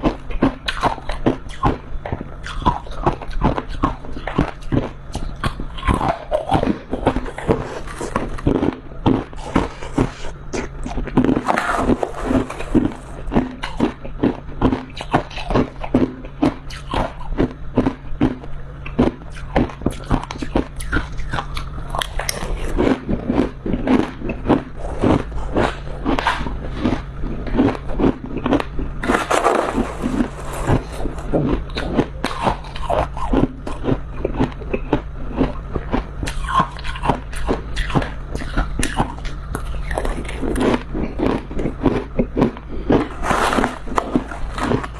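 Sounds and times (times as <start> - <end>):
icy frost crunching when chewed: 0.0 - 44.9.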